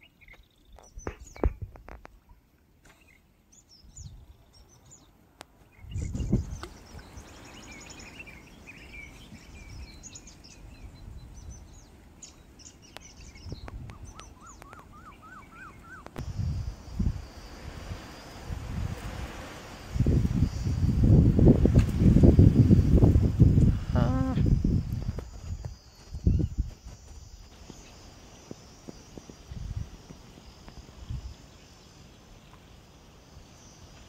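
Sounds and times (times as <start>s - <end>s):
birds chirping: 0.0s - 17.5s, 22.0s - 34.0s.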